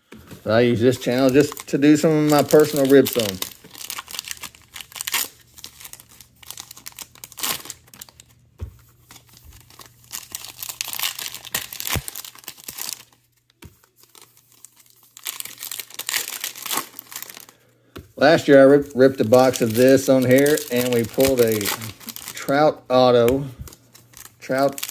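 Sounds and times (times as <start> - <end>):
foil wrappers crinkling and tearing: 0.3 - 17.7, 18.4 - 24.9.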